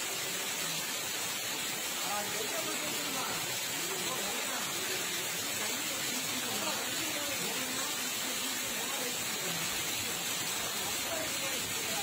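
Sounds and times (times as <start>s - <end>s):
floodwater hissing: 0.0s - 12.0s.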